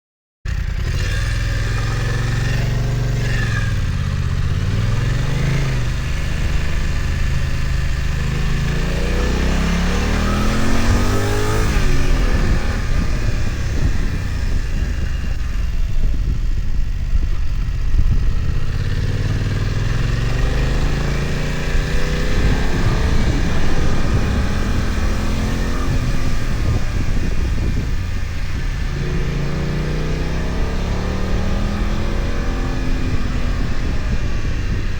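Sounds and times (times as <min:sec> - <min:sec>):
motorcycle engine revving: 0:00.5 - 0:34.9.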